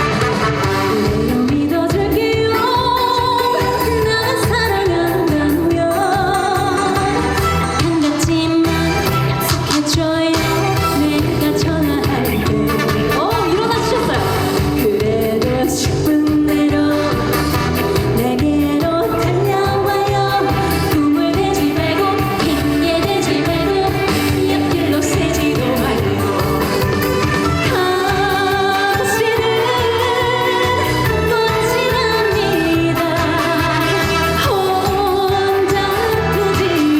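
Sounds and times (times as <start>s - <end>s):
backing band with dance beat: 0.0s - 36.9s
woman singing: 0.7s - 36.9s.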